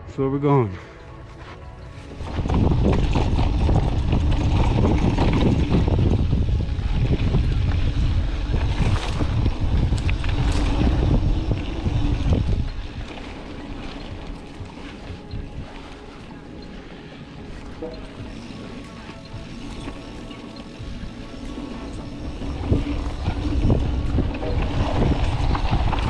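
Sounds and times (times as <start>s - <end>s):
wind buffeting microphone: 1.8s - 26.0s.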